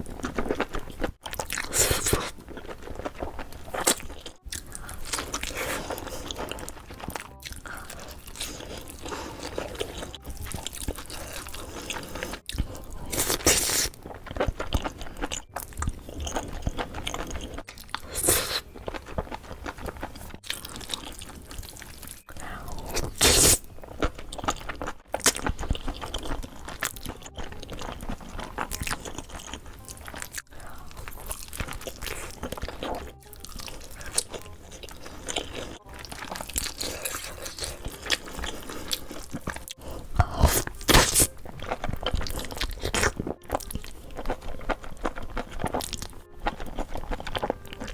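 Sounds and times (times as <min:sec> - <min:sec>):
crunching and chewing food: 0:00.0 - 0:47.9.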